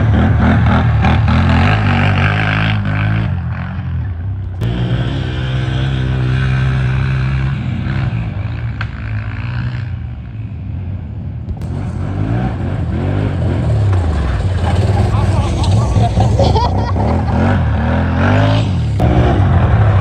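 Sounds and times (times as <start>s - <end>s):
atv engine revving: 0.0s - 10.4s, 11.5s - 20.0s.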